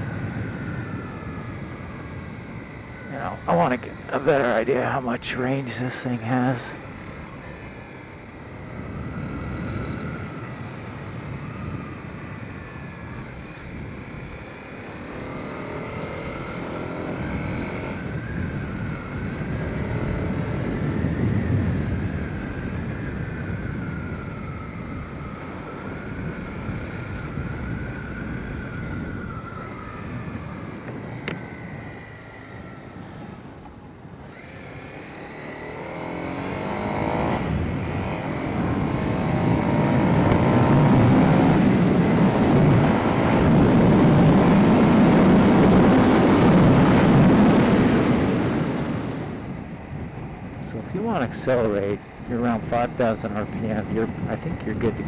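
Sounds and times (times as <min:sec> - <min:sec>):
wind noise: 0:00.0 - 0:15.6, 0:16.2 - 0:34.5, 0:35.4 - 0:55.0.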